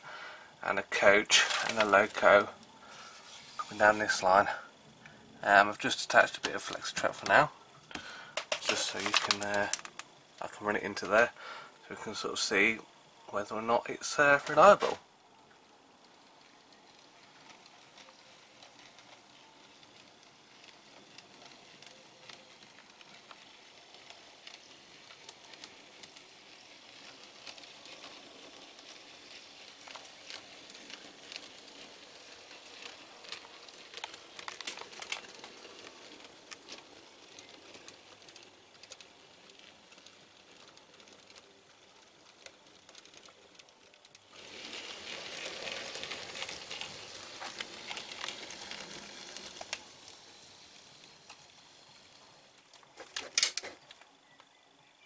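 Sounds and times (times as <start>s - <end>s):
wheels clicking over rail joints: 0.0s - 11.3s, 13.4s - 54.6s
model train rolling hiss: 0.0s - 15.0s, 15.7s - 53.8s.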